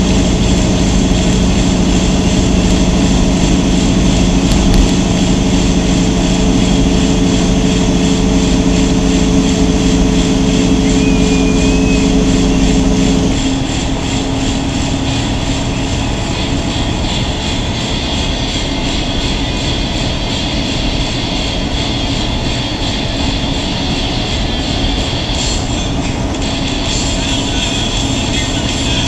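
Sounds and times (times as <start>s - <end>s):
diesel truck engine droning: 0.0s - 29.0s
road noise: 0.0s - 29.0s.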